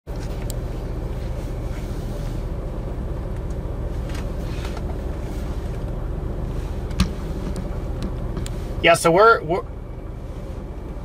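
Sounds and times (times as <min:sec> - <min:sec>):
vehicle engine idling: 0:00.1 - 0:11.0.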